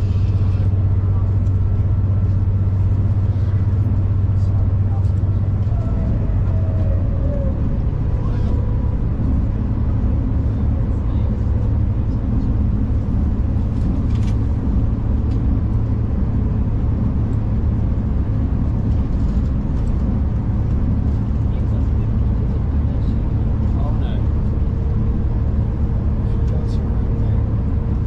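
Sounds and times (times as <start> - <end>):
train rumble inside carriage: 0.0 - 28.0.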